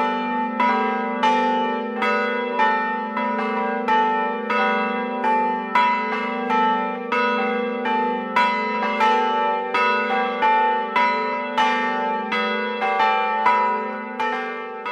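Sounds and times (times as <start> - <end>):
church bells ringing: 0.0 - 14.9.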